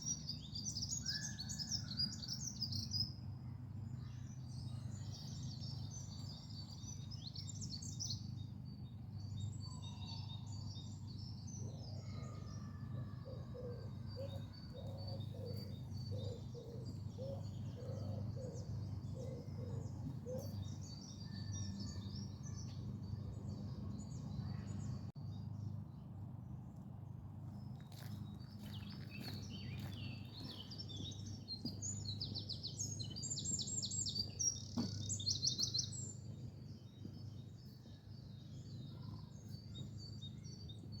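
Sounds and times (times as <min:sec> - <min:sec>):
songbirds singing and chirping: 0:00.0 - 0:41.0.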